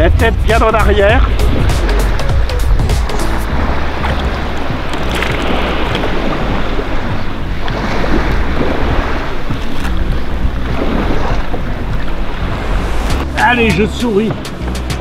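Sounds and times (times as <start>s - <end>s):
wind buffeting microphone: 0.0s - 15.0s
small waves lapping: 0.7s - 15.0s.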